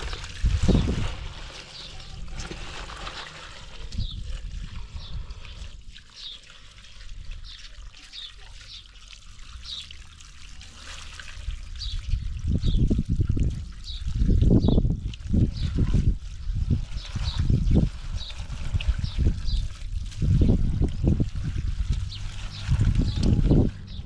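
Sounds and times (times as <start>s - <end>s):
hands rinsing vegetables: 0.0s - 24.0s
hose water splashing into pot: 0.0s - 24.0s.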